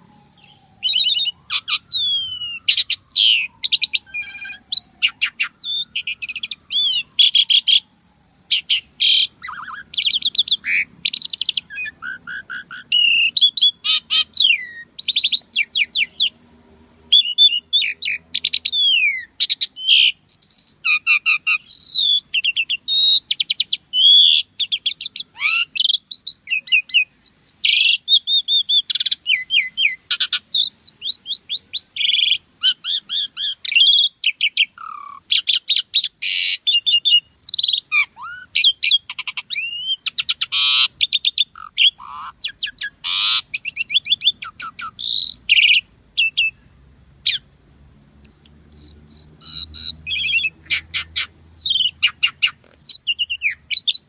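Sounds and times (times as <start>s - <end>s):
starling singing: 0.0s - 47.5s, 48.2s - 54.0s.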